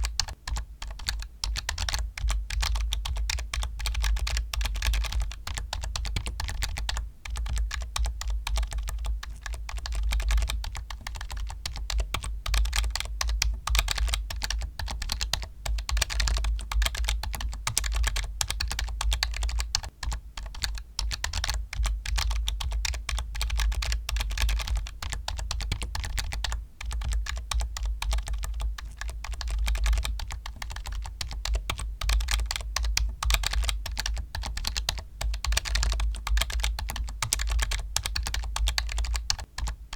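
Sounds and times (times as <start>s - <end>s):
rapid keyboard typing: 0.0s - 39.9s.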